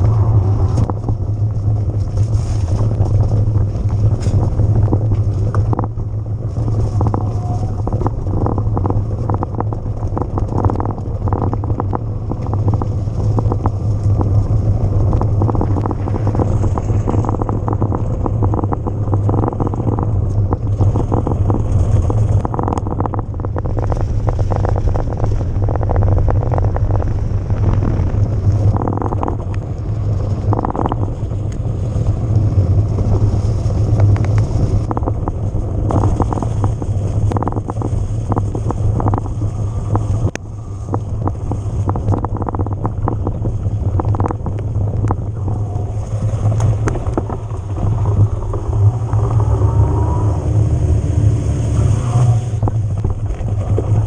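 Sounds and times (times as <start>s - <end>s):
bike rattling over rough ground: 0.0s - 54.0s
wind rushing over microphone: 0.0s - 54.0s.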